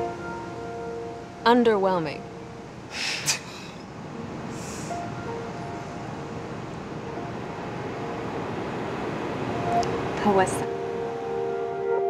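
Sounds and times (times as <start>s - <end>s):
steady background ambience: 0.0s - 12.0s.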